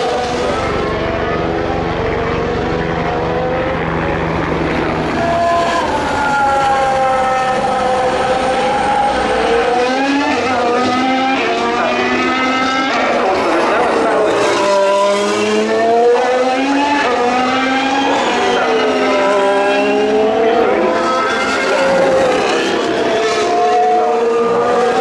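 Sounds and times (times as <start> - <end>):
racing car engines revving: 0.0 - 25.0.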